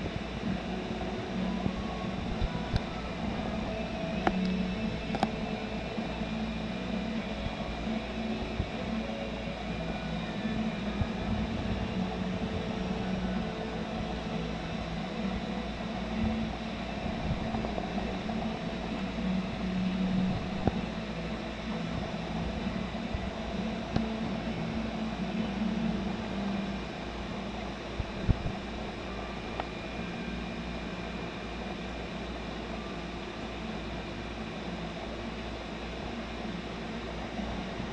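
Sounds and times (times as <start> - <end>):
aquarium equipment hum: 0.0 - 37.9.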